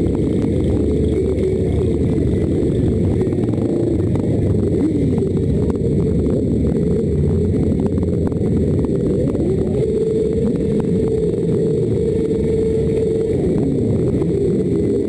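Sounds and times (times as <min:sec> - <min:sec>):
motorcycle engines idling and revving: 0:00.0 - 0:15.0.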